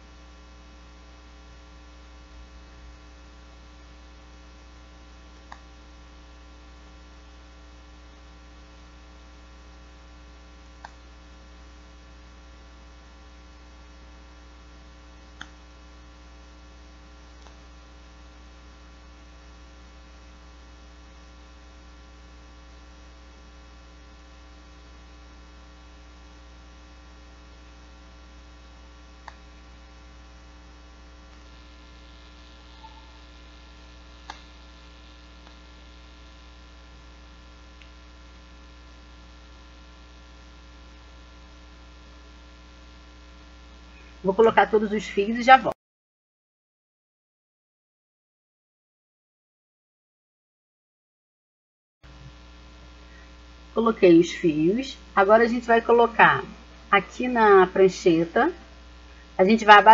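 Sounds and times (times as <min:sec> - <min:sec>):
electrical mains hum: 0:00.0 - 0:45.8, 0:52.0 - 0:59.9.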